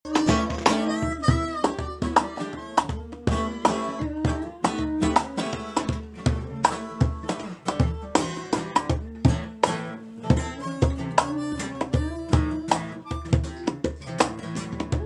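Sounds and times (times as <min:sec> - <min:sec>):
melodic tune over a beat: 0:00.1 - 0:14.1.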